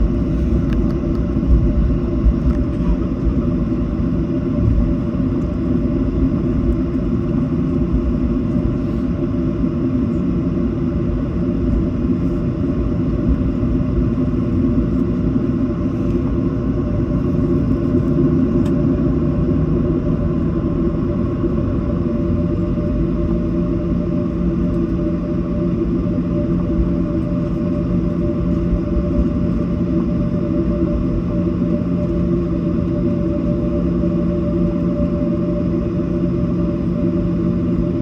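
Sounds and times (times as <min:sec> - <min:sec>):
airplane cabin rumble and hum: 0:00.0 - 0:38.0.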